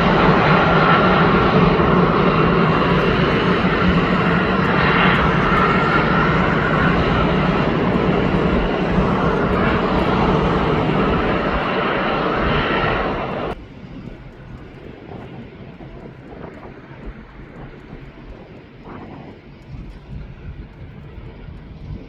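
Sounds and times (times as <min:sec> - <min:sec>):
jet engines roaring: 0:00.0 - 0:22.0
outdoor background noise: 0:00.0 - 0:22.0
steady low hum: 0:00.0 - 0:22.0.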